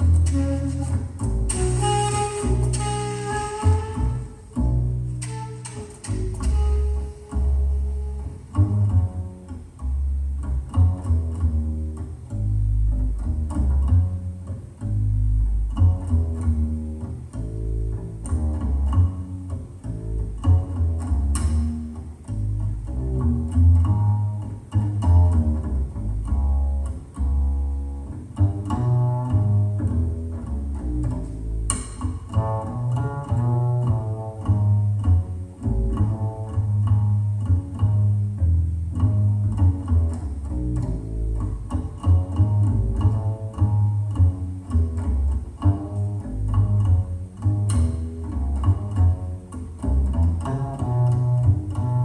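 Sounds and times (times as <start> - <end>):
deep held bass notes: 0.0 - 52.0
plucked string notes: 0.0 - 52.0.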